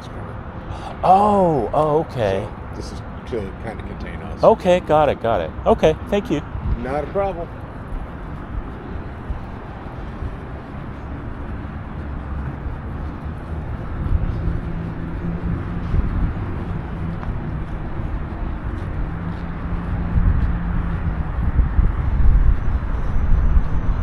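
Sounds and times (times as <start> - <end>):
engine hum: 0.0 - 24.0
road traffic rumbling: 0.0 - 24.0.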